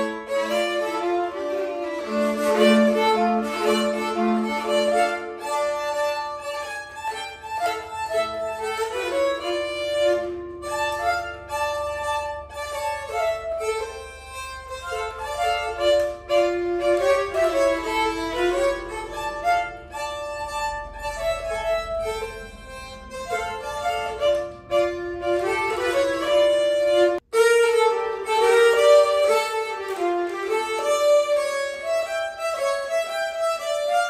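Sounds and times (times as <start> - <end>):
two keyed fiddles bowing folk tune: 0.0 - 34.0.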